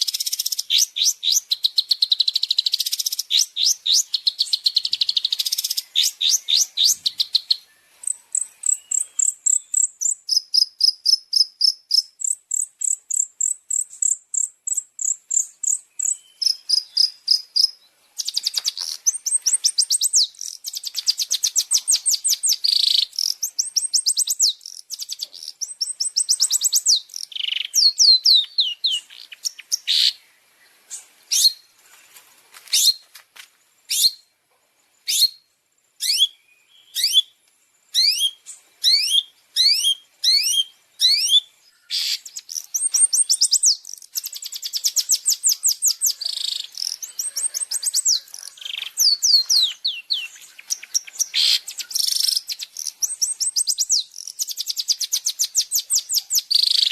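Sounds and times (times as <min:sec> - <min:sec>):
bird song trills: 0:00.0 - 0:33.1, 0:33.9 - 0:56.9.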